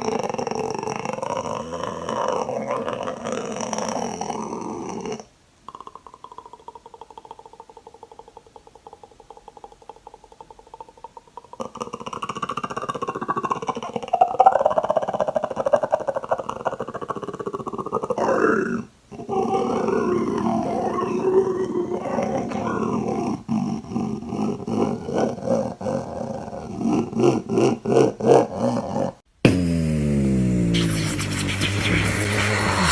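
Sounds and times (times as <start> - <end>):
mouth clicking rattle: 0.0 - 29.2
person growling: 0.0 - 29.7.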